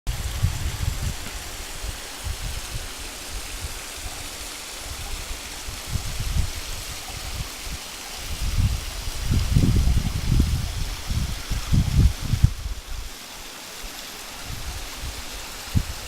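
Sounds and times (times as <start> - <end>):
stream water splashing: 0.1 - 16.0.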